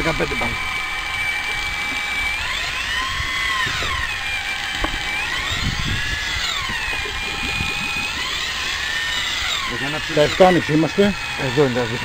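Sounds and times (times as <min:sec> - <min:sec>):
electric fishing reel motor whine: 0:00.0 - 0:12.0.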